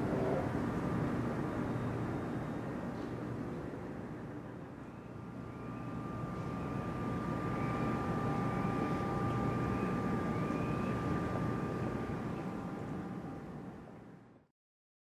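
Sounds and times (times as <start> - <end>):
passing engine rumble and whine: 0.0 - 14.5.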